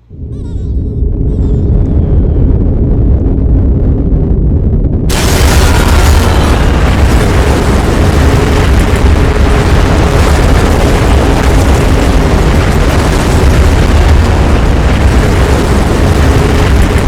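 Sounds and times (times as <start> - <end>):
deep steady rumbling: 0.0 - 17.0.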